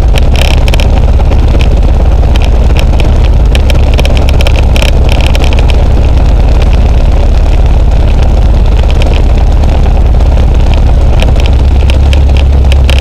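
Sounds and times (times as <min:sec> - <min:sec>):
propeller aircraft engine running: 0:00.0 - 0:13.0.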